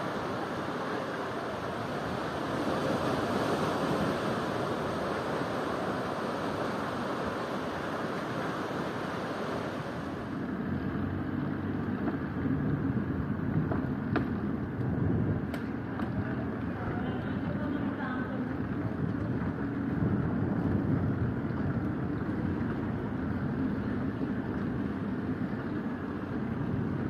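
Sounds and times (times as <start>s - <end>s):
ocean surf washing on shore: 0.0s - 27.0s
wind rumble on microphone: 0.0s - 27.0s.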